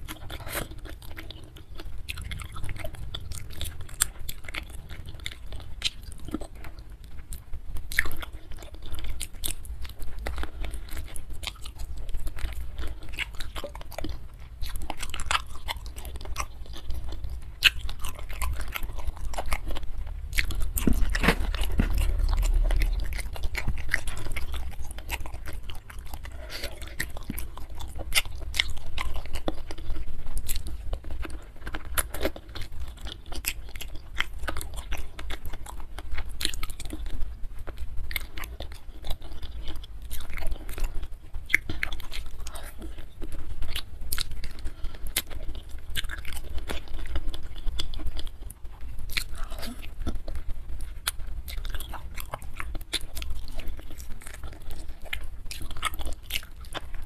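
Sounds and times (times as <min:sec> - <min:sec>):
person chewing with wet smacks: 0:00.0 - 0:57.0.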